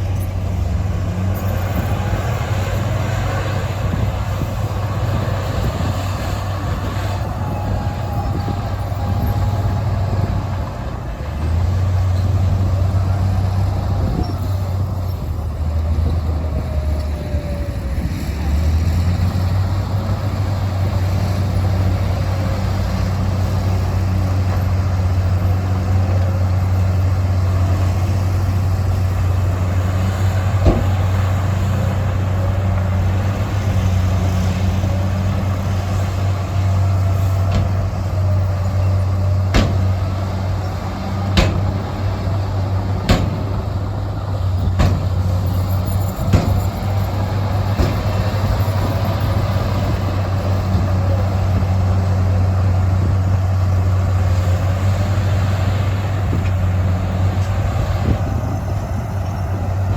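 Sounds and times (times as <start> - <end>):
heavy diesel machinery drone: 0.0 - 59.9.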